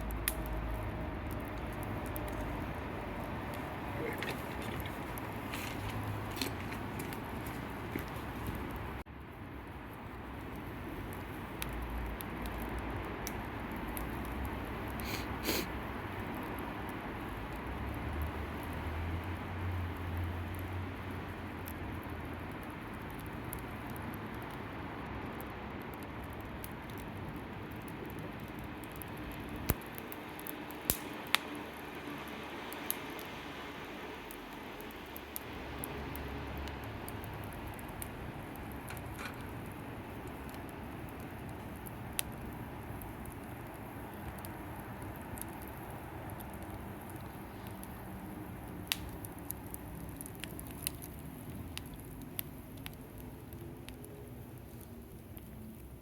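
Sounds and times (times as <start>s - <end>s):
fire crackling pops: 0.0s - 56.0s
wood fire hissing: 0.0s - 56.0s.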